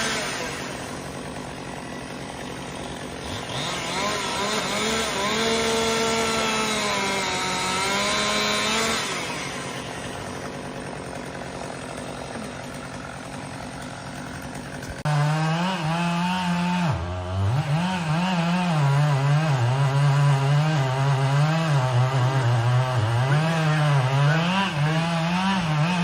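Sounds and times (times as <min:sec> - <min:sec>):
chainsaw engine cutting: 0:00.0 - 0:26.0.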